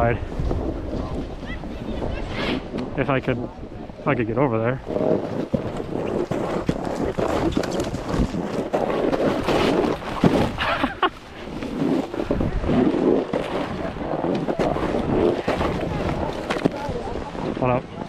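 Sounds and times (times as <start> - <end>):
snowboard scraping over snow: 0.0 - 18.0
wind buffeting microphone: 0.0 - 18.0.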